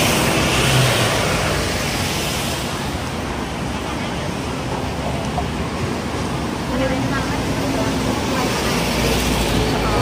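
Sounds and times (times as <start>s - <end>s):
faint voices of passers-by: 0.0s - 10.0s
road traffic passing: 0.0s - 10.0s.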